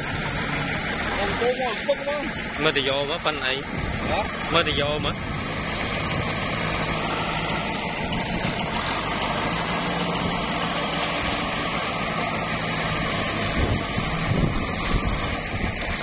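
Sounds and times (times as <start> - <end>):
tractor diesel engine running: 0.0 - 16.0
water churning: 0.0 - 16.0.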